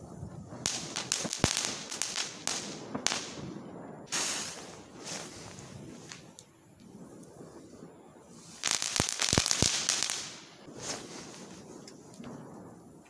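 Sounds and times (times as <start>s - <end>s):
firework hissing burst: 0.0s - 13.0s
firecrackers cracking and banging: 0.5s - 13.0s.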